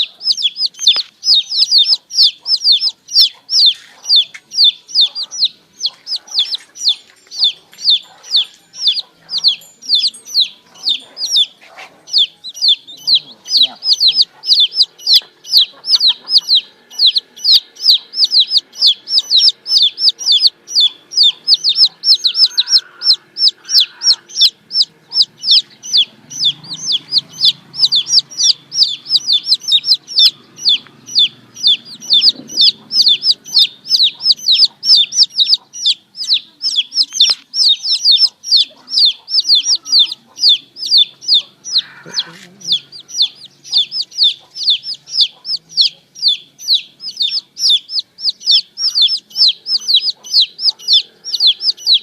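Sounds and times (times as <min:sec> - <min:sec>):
baby chicks peeping: 0:00.0 - 0:52.0.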